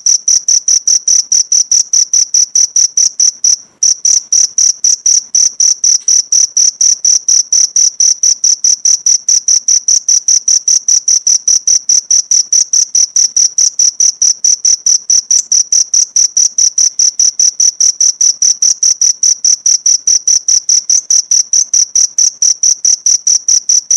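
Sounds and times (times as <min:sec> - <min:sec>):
cricket chirping: 0:00.0 - 0:23.9.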